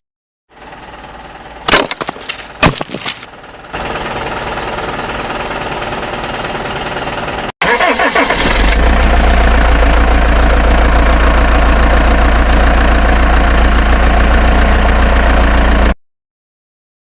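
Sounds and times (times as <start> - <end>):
vehicle engine idling: 0.5 - 16.0.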